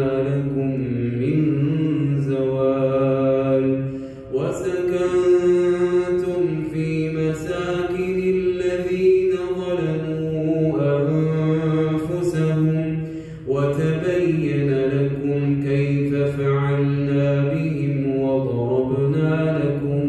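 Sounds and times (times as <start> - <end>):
man chanting melodically: 0.0 - 20.0.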